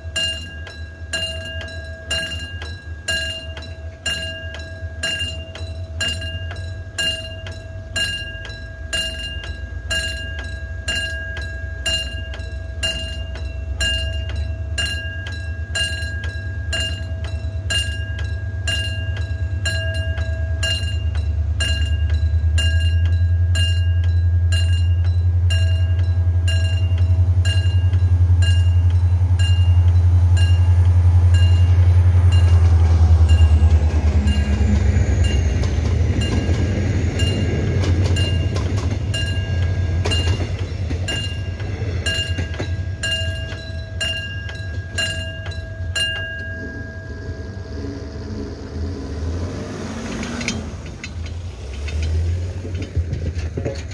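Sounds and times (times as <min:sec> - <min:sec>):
diesel locomotive rumble: 0:00.0 - 0:53.9
railway warning bell dinging: 0:00.0 - 0:53.9.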